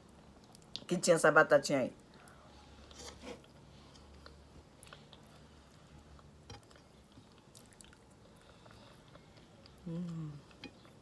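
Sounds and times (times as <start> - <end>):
faint chewing of food: 0.0 - 0.9, 2.0 - 11.0
low steady hum: 0.0 - 11.0.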